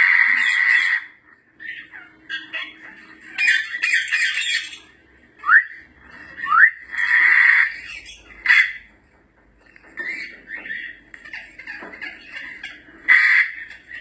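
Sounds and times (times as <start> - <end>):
parrot screeching and whistling: 0.0 - 4.9, 5.5 - 8.9, 10.0 - 14.0.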